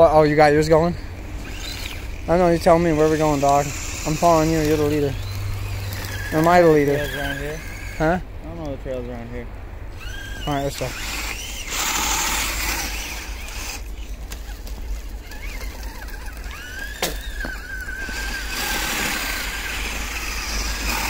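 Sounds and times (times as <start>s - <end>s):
electric motor and gear whine: 0.0s - 21.0s.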